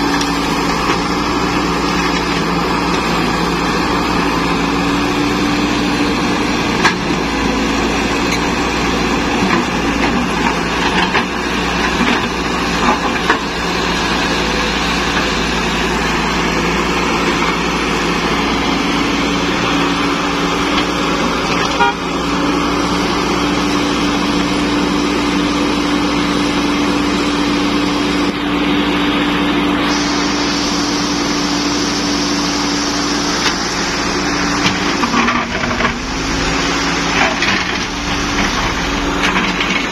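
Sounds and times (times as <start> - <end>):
excavator diesel engine: 0.0 - 39.9
steady tone in engine drone: 0.0 - 39.9.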